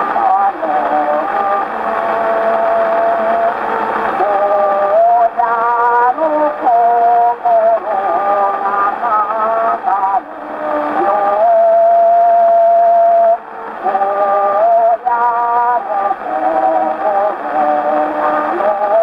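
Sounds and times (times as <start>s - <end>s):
old phonograph song recording: 0.0s - 19.0s
record surface hiss: 0.0s - 19.0s.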